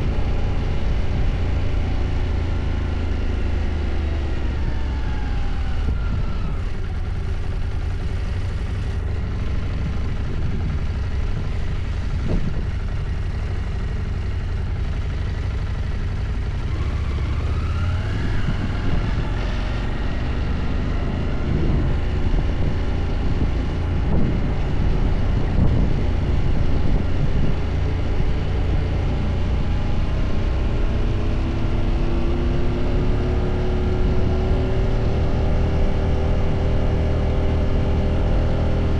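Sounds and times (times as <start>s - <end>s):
motorcycle engine running: 0.0s - 38.9s
wind rumble on microphone: 4.2s - 13.6s, 16.8s - 38.9s.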